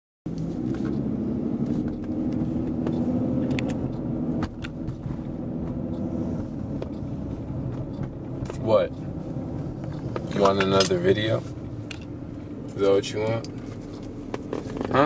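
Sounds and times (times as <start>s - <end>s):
car engine and road rumble: 0.3s - 15.0s.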